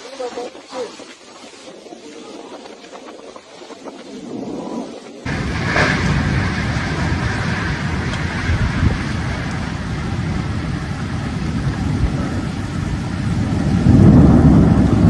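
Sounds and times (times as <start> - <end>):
heavy rain: 0.0 - 15.0
wind on microphone: 0.0 - 15.0.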